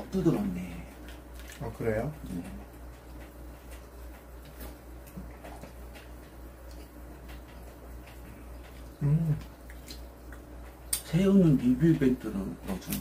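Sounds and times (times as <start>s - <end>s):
faint chewing: 0.0s - 13.0s
steady low hum: 0.0s - 13.0s.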